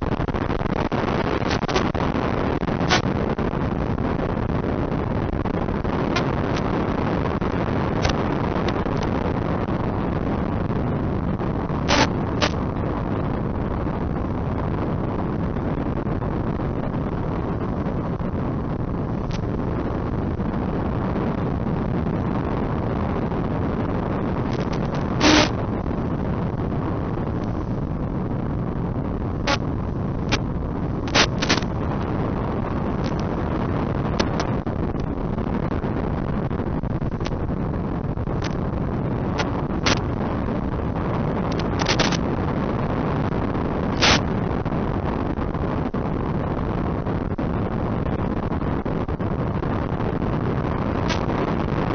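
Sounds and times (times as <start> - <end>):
sharp crackles and pops: 0.0 - 51.9
steady rushing noise: 0.0 - 51.9.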